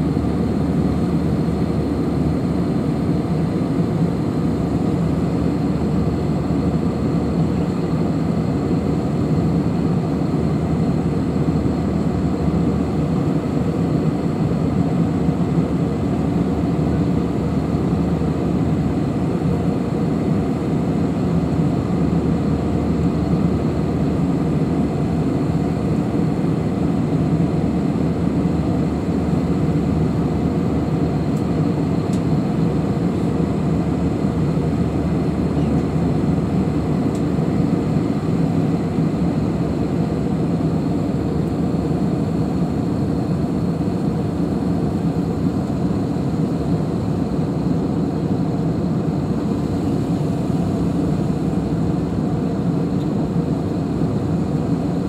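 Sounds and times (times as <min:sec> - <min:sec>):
airliner cabin engine rush: 0:00.0 - 0:55.0.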